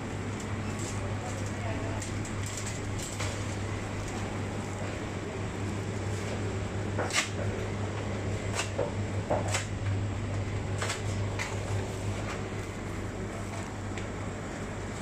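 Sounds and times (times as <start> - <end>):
refrigerator hum: 0.0 - 15.0.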